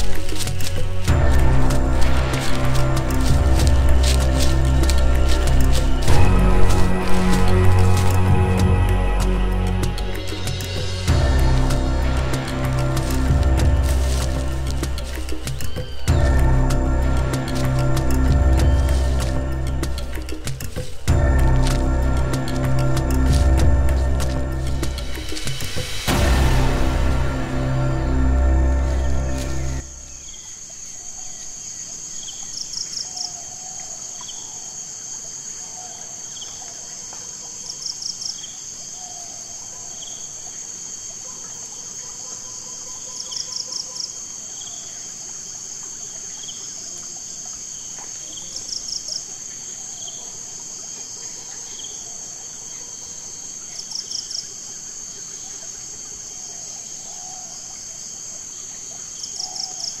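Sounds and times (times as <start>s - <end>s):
quick insect chirps: 0.0s - 36.6s, 37.7s - 60.0s
insects trilling: 0.0s - 60.0s.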